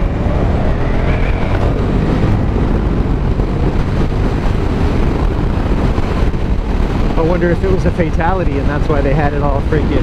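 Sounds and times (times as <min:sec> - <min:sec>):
motorcycle engine running: 0:00.0 - 0:10.0
wind rushing on microphone: 0:00.0 - 0:10.0.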